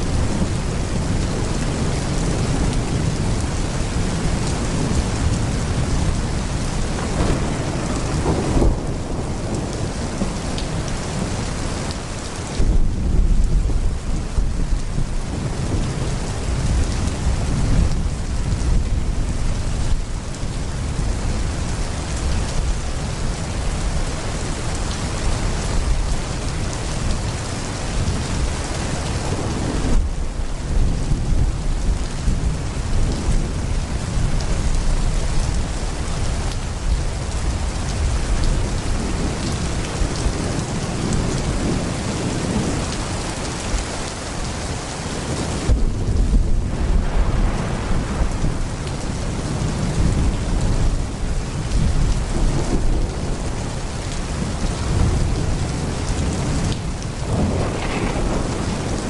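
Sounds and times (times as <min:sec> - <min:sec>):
deep thunder rumbling: 0:00.0 - 0:11.6, 0:12.6 - 0:44.0, 0:45.2 - 0:59.0
heavy rain pouring: 0:00.0 - 0:59.0.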